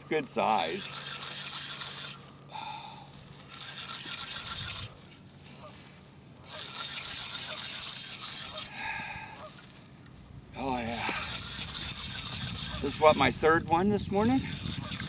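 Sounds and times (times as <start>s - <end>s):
fishing reel whirring and clicking: 0.0s - 5.7s, 6.4s - 9.9s, 10.6s - 15.0s.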